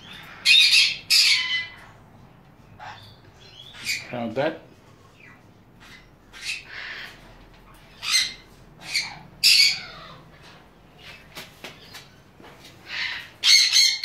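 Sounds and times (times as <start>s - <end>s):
parrots squawking: 0.0s - 4.4s, 5.1s - 11.2s, 12.8s - 14.0s.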